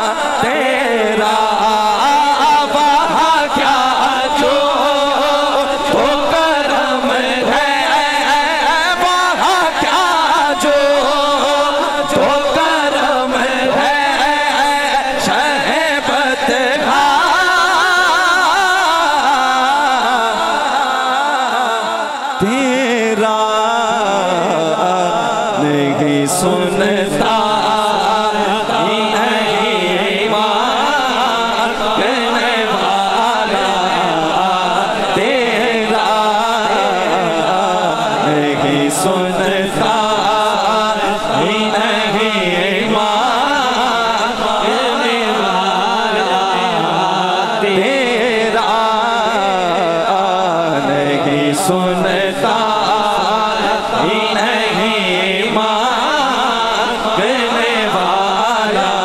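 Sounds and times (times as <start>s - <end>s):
man singing into microphone: 0.0s - 59.0s.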